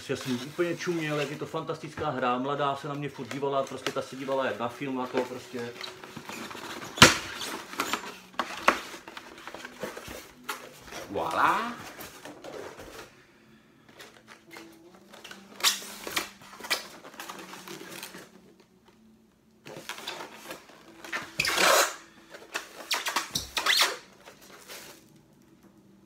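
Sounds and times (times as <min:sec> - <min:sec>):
packaging rustling and scraping: 0:00.0 - 0:13.2, 0:13.8 - 0:25.8.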